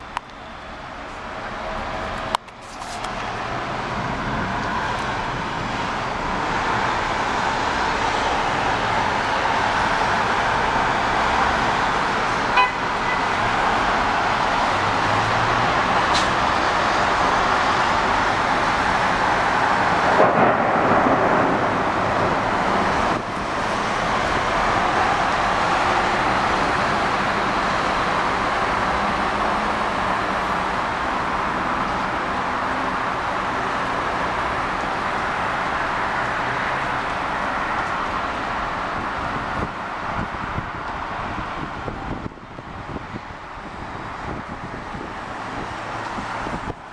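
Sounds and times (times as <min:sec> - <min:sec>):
heavy rain pouring: 0:03.3 - 0:42.8.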